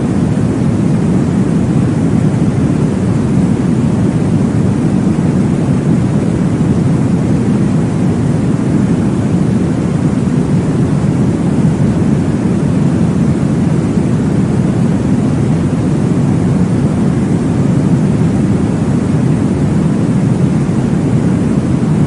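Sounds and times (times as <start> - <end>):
deep white noise hiss: 0.0 - 22.0.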